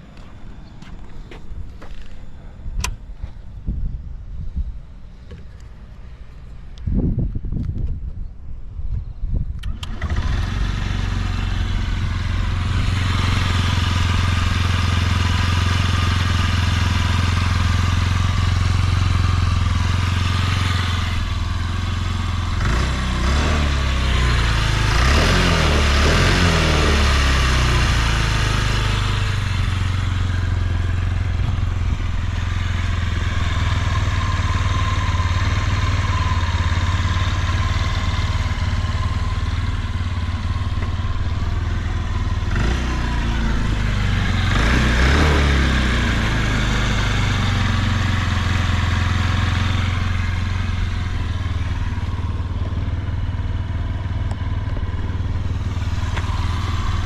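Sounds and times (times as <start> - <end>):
scooter engine idling and revving: 0.0 - 57.0.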